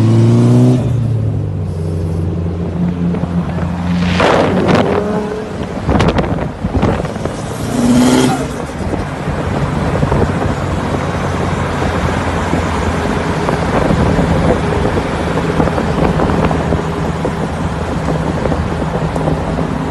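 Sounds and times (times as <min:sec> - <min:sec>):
car exhaust drone: 0:00.0 - 0:19.9
exhaust rattle: 0:01.3 - 0:19.9.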